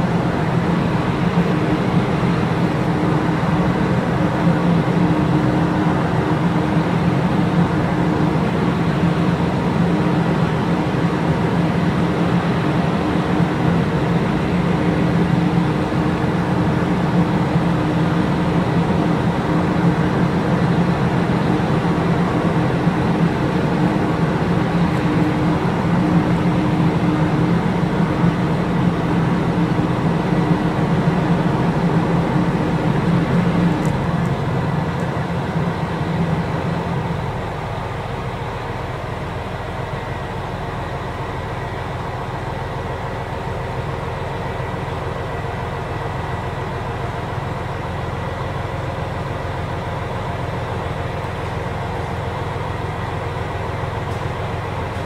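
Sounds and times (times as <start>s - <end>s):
railcar diesel engines humming: 0.0s - 55.0s.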